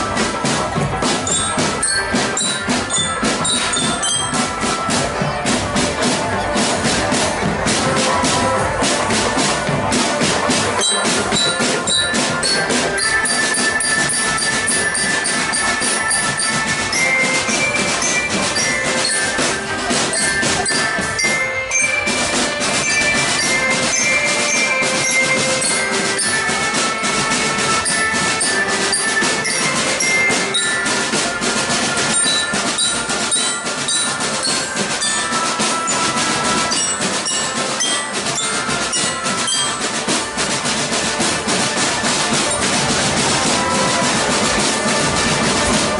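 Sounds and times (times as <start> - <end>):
glockenspiel melody: 0.0 - 45.9
marching drum band playing: 0.0 - 45.9.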